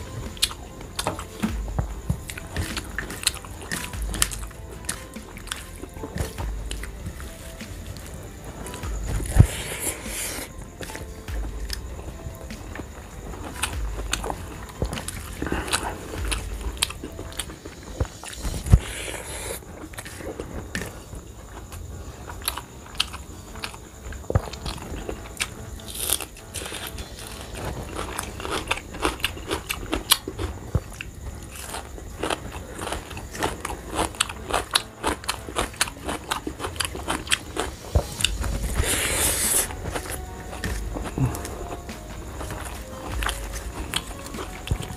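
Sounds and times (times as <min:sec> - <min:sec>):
man chewing with wet mouth sounds: 0:00.0 - 0:44.9.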